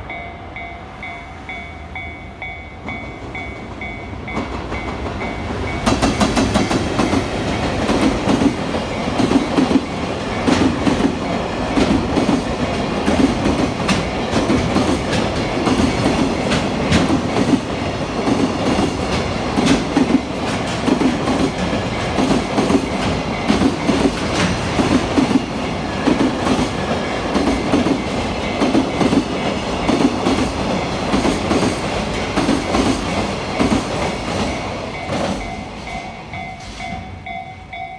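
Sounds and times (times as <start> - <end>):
train wheels rumbling on rail: 0.0 - 37.9
wheels clickety-clack over rail joints: 2.8 - 37.2.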